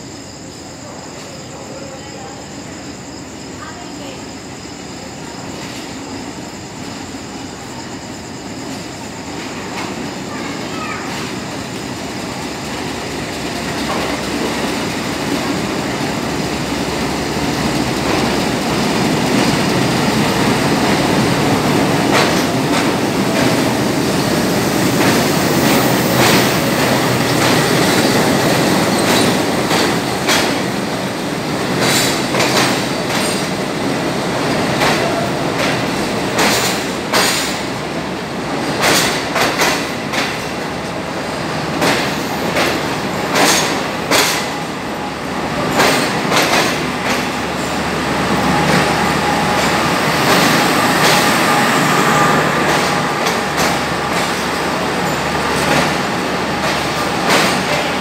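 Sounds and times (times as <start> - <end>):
train wheel clatter: 3.6 - 58.0
locomotive rumble: 8.8 - 58.0.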